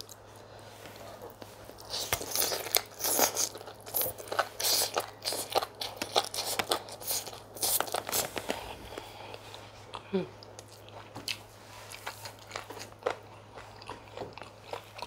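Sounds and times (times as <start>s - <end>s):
close chewing and smacking: 1.2s - 15.0s.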